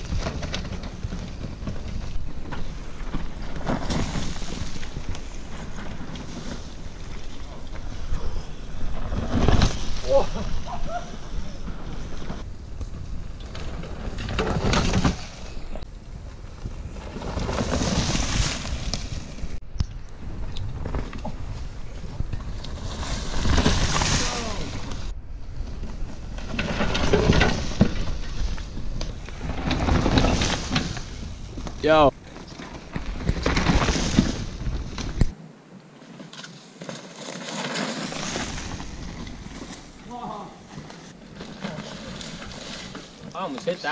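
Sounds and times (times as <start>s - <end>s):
bike tyres skidding through dirt: 0.0s - 19.6s, 20.2s - 43.9s
wind rumble on microphone: 0.0s - 35.4s.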